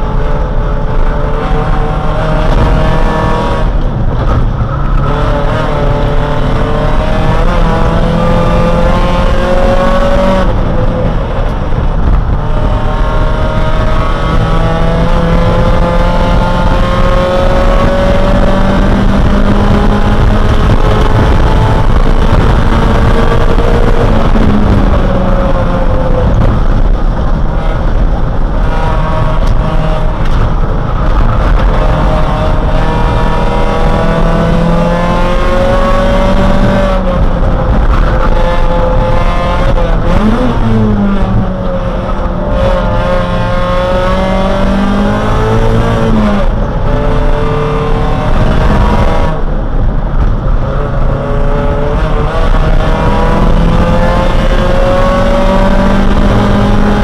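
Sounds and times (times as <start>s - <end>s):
race car engine: 0.0s - 57.0s
road and wind noise: 0.0s - 57.0s.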